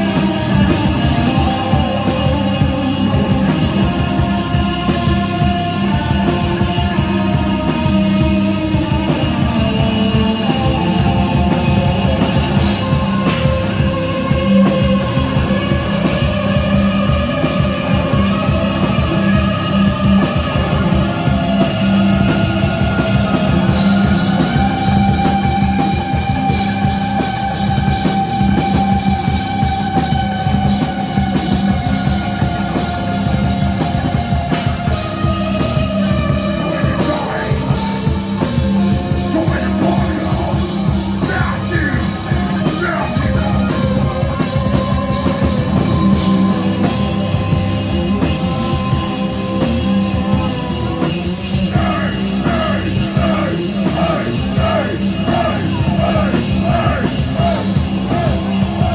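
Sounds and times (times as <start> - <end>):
drum kit pounding: 0.0 - 58.9
rock band playing live: 0.0 - 58.9
sustained guitar lines: 0.0 - 58.9.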